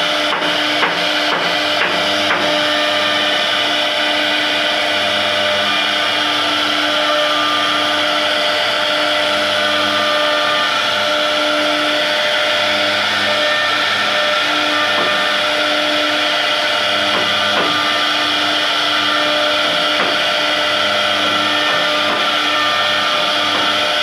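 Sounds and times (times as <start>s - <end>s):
router spindle cutting wood: 0.0s - 24.0s.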